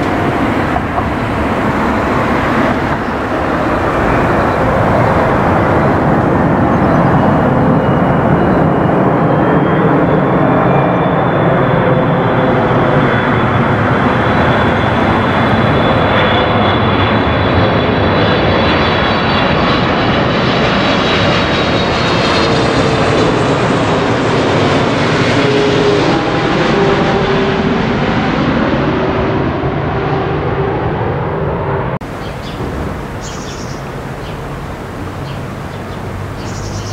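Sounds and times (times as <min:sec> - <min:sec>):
jet airliner passing overhead: 0:00.0 - 0:36.9.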